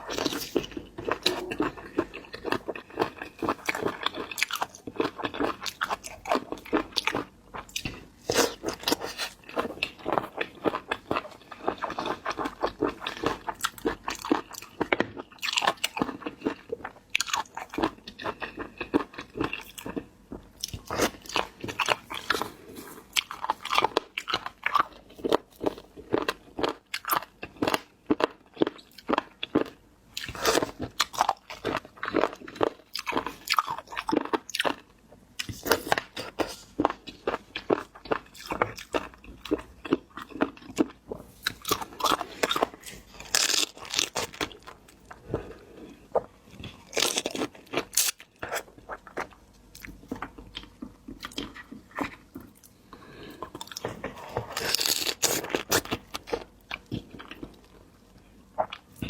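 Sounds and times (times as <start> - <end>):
crunchy chewing of seafood: 0.0 - 59.0.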